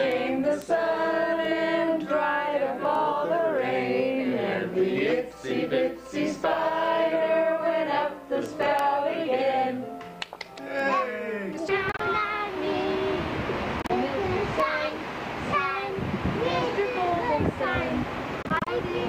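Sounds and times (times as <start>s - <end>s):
voices singing together: 0.0s - 10.0s, 10.6s - 17.8s.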